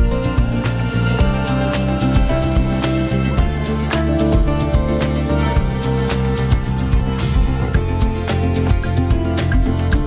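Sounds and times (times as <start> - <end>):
instrumental music with plucked guitar: 0.0 - 10.0.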